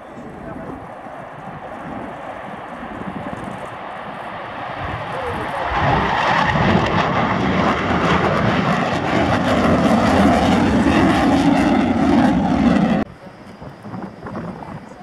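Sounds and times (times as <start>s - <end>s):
jet flying past low: 0.0s - 15.0s.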